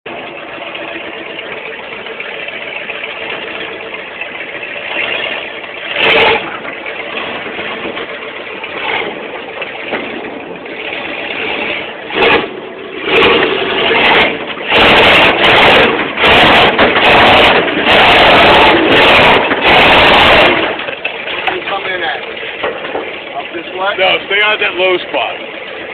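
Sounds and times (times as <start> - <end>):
truck engine droning: 0.0 - 25.9.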